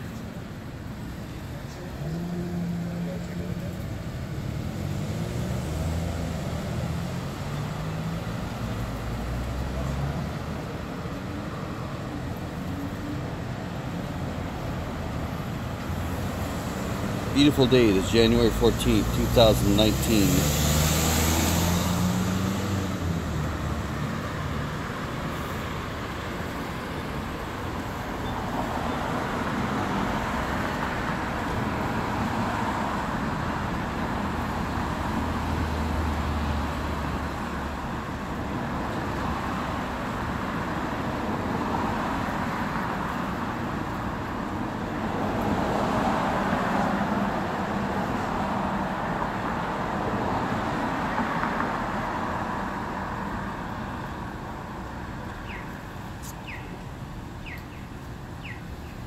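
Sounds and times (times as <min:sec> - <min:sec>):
cars passing: 0:00.0 - 0:59.0
road traffic hum: 0:00.0 - 0:59.0.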